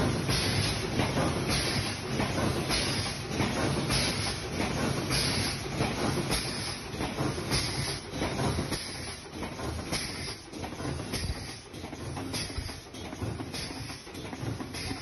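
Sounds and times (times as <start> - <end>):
machine hiss: 0.0 - 15.0
packing machine clattering: 0.0 - 15.0.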